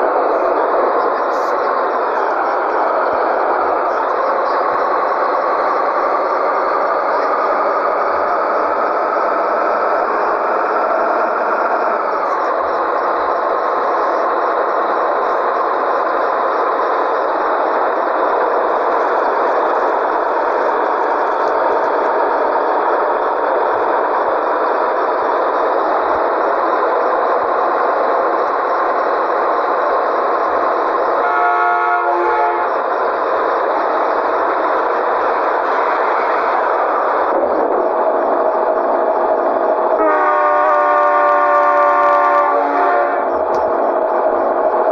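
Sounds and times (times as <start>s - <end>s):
truck diesel engine drone: 0.0s - 40.4s.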